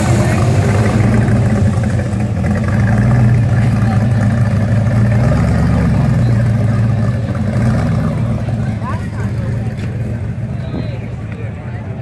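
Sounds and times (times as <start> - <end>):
van engine rumbling: 0.0 - 12.0.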